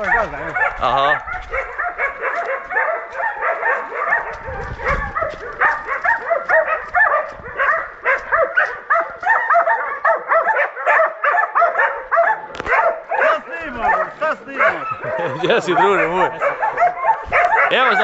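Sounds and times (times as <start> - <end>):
dogs barking: 0.0 - 18.0.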